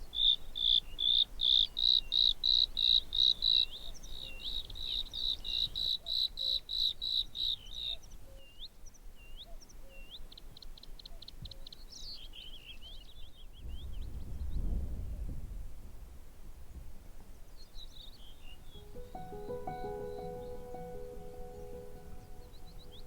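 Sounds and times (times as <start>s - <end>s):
bird singing: 0.0s - 13.6s, 17.6s - 23.0s.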